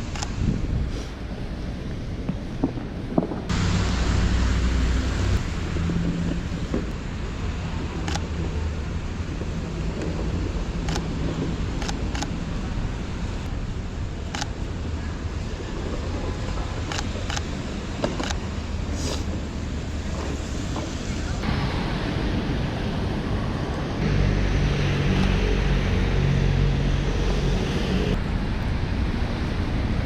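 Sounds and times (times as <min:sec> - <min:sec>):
traffic rumbling past: 0:00.0 - 0:30.0
wind buffeting microphone: 0:00.0 - 0:30.0.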